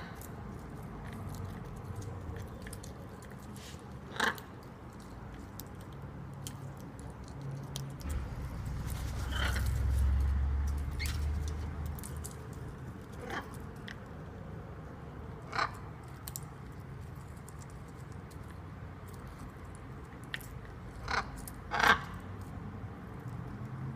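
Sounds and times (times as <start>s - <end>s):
beak crunching food: 0.0s - 23.9s.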